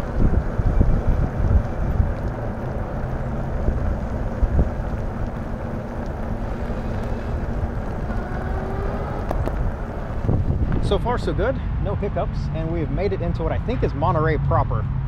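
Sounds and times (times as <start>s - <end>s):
wind rushing over microphone: 0.0s - 14.2s
tyres rumbling on pavement: 0.0s - 14.6s.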